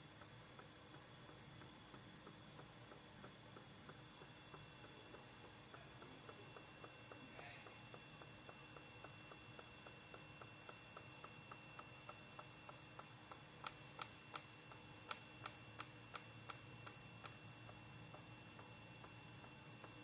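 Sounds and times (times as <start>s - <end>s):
faint electronic whine and hum: 0.0s - 20.0s
machine clicking: 0.0s - 20.0s.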